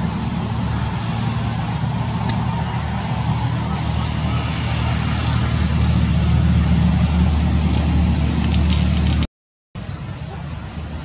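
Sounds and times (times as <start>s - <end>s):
engine running low rumble: 0.0s - 11.0s.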